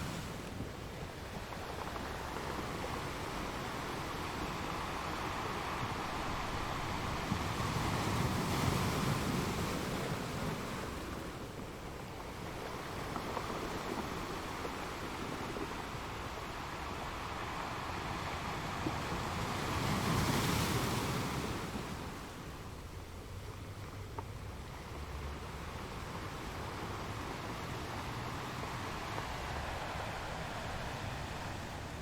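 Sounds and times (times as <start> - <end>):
ocean waves washing in: 0.0 - 23.4, 24.6 - 32.0.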